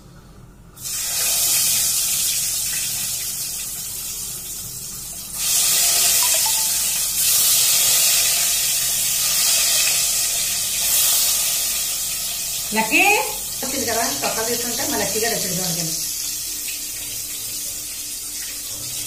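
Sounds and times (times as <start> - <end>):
eggs sizzling in hot oil: 0.8 - 19.0.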